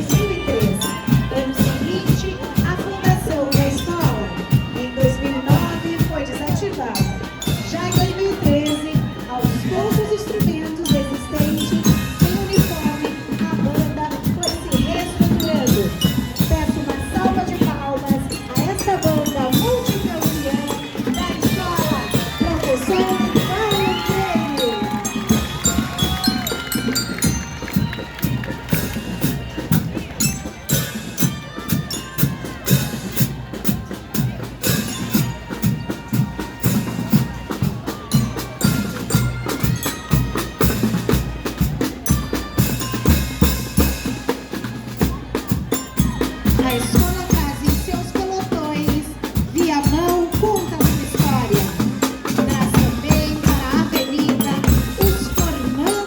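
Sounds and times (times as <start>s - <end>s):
marching band playing: 0.0s - 56.0s
bass drum and snare beat: 7.5s - 56.0s.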